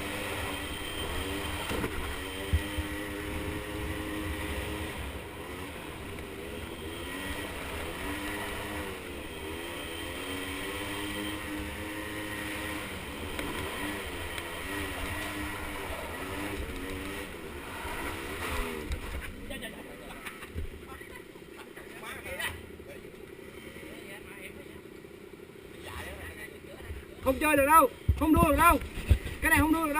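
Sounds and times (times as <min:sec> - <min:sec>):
small atv engines revving: 0:00.0 - 0:29.9.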